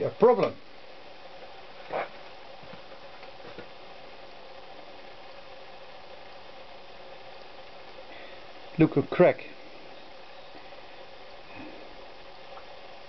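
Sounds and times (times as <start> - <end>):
faint workshop hum: 0.0 - 13.0.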